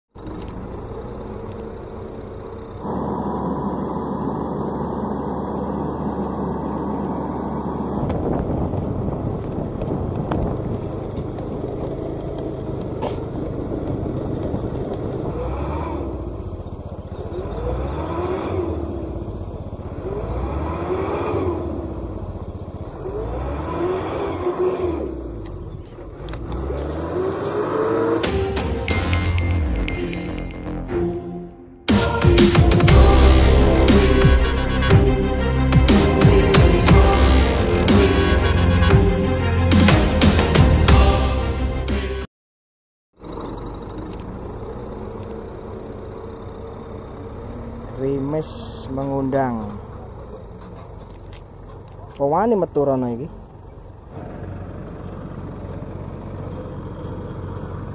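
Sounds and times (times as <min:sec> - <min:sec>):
truck engine revving: 0:00.2 - 0:42.3, 0:43.2 - 0:57.9.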